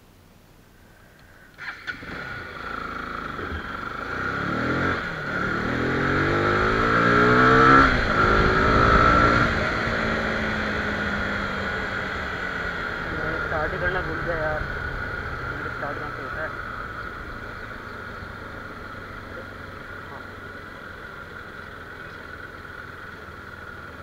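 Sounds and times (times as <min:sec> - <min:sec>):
motorcycle engine revving: 0:01.6 - 0:24.0.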